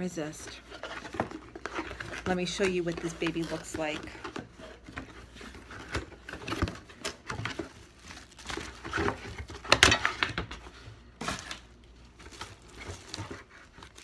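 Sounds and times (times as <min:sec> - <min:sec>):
packaging rustling and knocking: 0:00.0 - 0:14.0.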